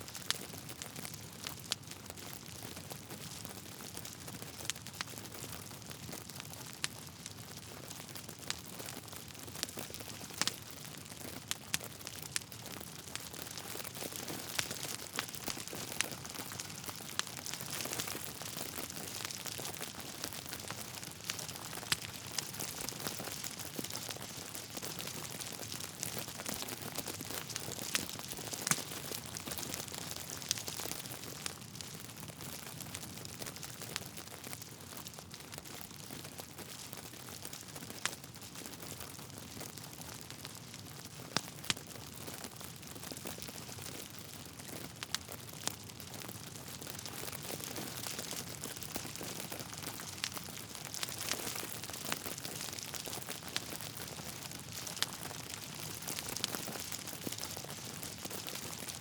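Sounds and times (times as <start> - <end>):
wood fire crackling and popping: 0.1 - 59.0.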